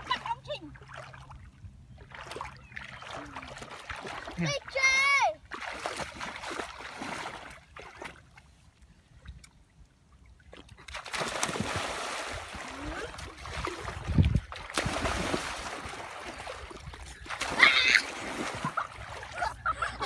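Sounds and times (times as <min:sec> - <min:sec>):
splashing in shallow water: 0:00.0 - 0:20.0.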